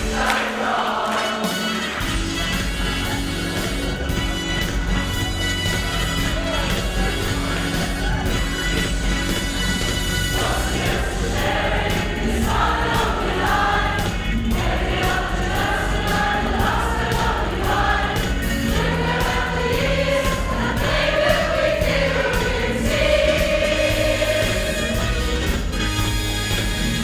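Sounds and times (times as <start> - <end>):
choir singing: 0.0 - 25.6
musical accompaniment: 0.0 - 27.0.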